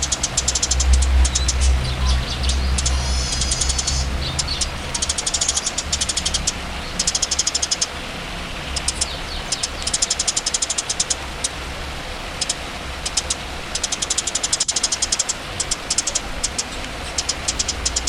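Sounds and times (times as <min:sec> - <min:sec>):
songbird chattering: 0:00.0 - 0:08.0, 0:08.6 - 0:11.6, 0:12.4 - 0:18.0.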